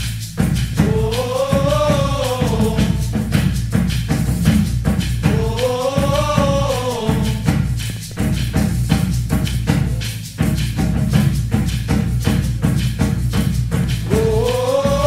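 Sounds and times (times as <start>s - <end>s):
band with percussion and bass: 0.0s - 15.0s.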